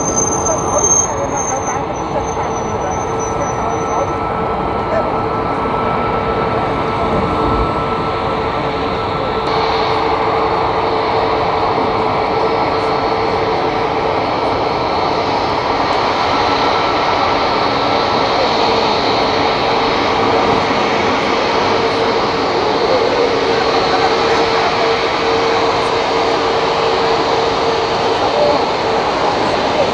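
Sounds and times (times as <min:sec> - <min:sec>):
jet engines roaring: 0:00.0 - 0:29.9.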